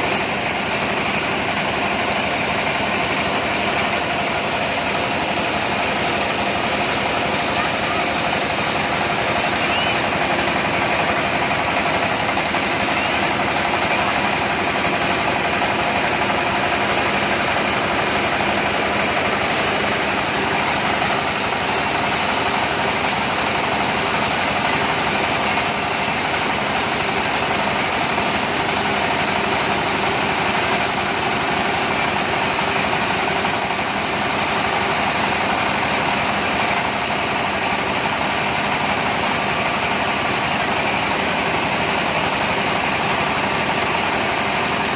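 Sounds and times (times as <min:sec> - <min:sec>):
starch-separating machine running: 0:00.0 - 0:44.9.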